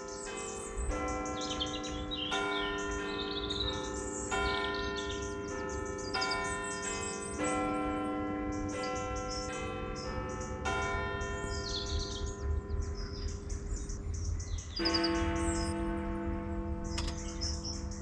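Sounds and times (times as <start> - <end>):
small birds chirping: 0.0 - 7.8, 8.5 - 10.6, 11.2 - 15.8, 16.6 - 18.0
church bells ringing: 0.0 - 18.0.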